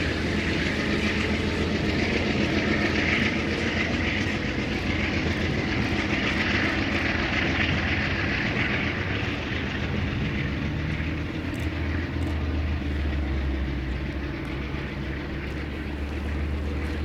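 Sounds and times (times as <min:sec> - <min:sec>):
train low rumble: 0:00.0 - 0:17.0
wheels hissing on rails: 0:00.0 - 0:17.0.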